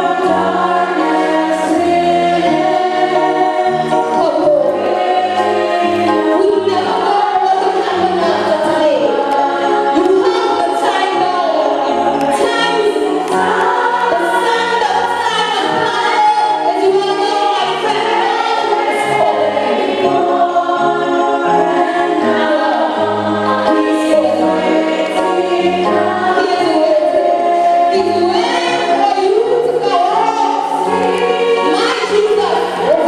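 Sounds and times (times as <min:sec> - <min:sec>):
choir singing a hymn: 0:00.0 - 0:33.0
instrumental accompaniment: 0:00.0 - 0:33.0.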